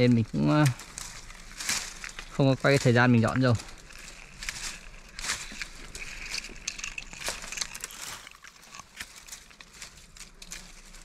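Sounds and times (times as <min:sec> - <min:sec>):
dry twigs and leaves crackling: 0:00.0 - 0:11.0.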